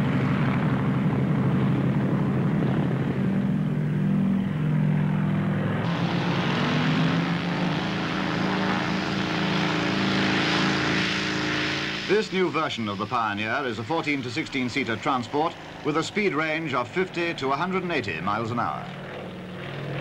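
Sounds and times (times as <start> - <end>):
propeller aircraft engines drone: 0.0 - 20.0.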